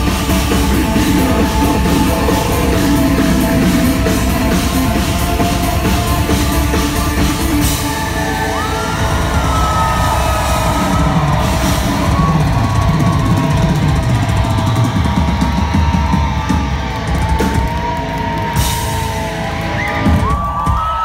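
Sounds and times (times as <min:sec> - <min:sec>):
distorted guitars: 0:00.0 - 0:20.5
live metal band playing: 0:00.0 - 0:20.5
pounding drums: 0:00.0 - 0:21.0.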